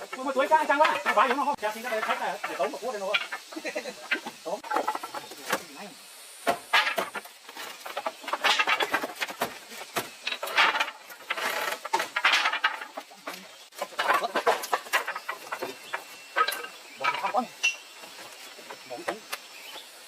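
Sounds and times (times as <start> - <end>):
chickens clucking and squawking: 0.0 - 19.2.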